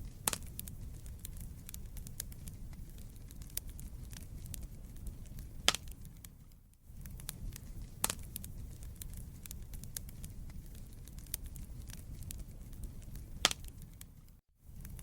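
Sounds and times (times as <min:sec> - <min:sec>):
loud fire pops: 0:00.0 - 0:15.0
low rumble of flames: 0:00.0 - 0:15.0
wood fire crackles: 0:00.0 - 0:15.0.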